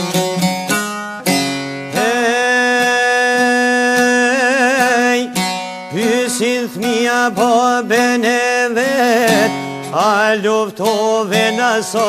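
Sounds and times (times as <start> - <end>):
plucked strings: 0.0 - 12.0.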